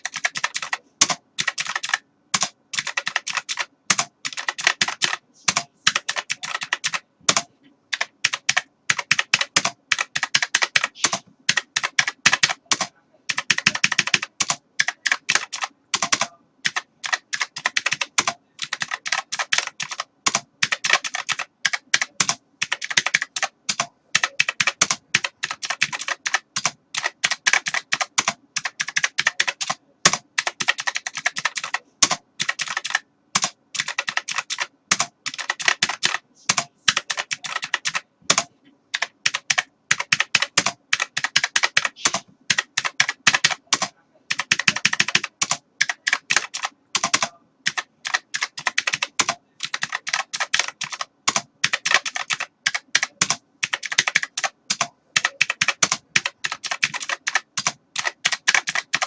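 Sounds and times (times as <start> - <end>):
keyboard typing: 0.0 - 59.0.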